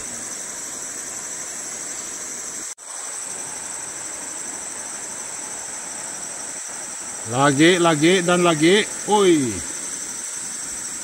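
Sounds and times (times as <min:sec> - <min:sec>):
even hiss: 0:00.0 - 0:11.0
forest insects droning: 0:00.0 - 0:11.0.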